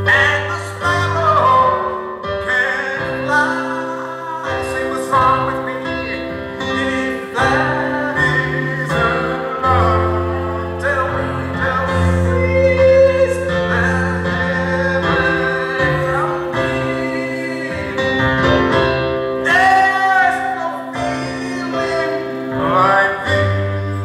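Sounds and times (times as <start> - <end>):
voices singing a hymn: 0.0 - 18.6, 19.4 - 24.0
electronic keyboard chords: 0.0 - 24.0.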